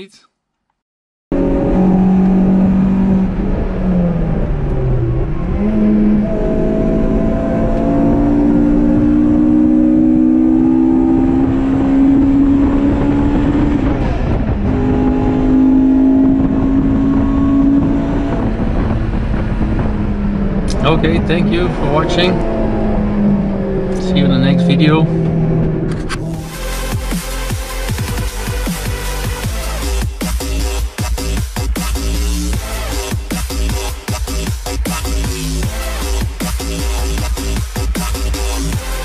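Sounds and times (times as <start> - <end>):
car engine accelerating: 1.3 - 39.0.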